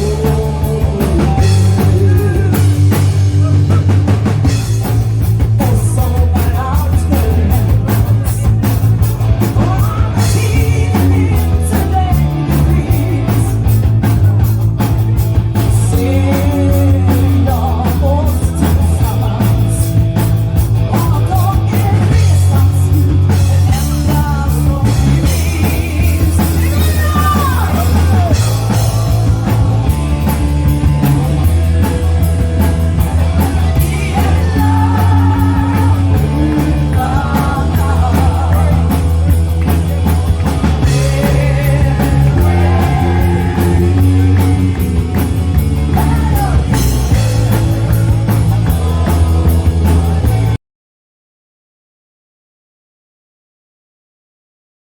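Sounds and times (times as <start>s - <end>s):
person singing: 0.0s - 14.9s, 15.5s - 20.0s, 20.8s - 50.6s
drums: 0.0s - 50.6s
pulsing bass: 0.0s - 50.6s.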